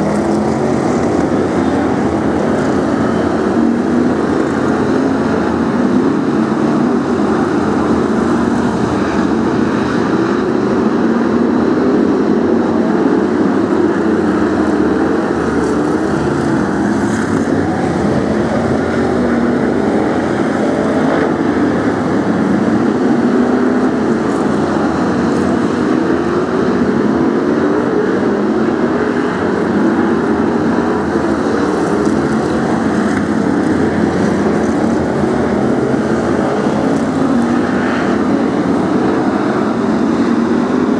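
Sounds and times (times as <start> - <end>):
racing car engines: 0.0 - 40.9.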